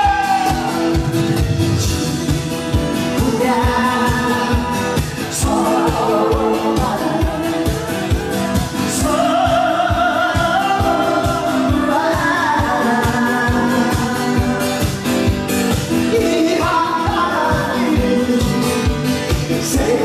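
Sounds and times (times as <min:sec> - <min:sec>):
amplified live singing: 0:00.0 - 0:20.0.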